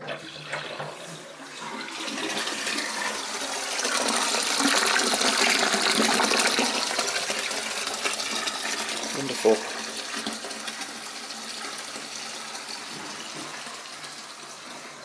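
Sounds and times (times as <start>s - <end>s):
water rushing down drain: 0.0s - 15.0s.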